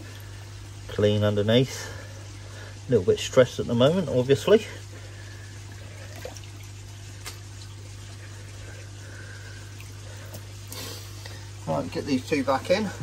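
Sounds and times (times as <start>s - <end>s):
low steady hum: 0.0s - 13.0s
pond water trickling: 0.0s - 13.0s.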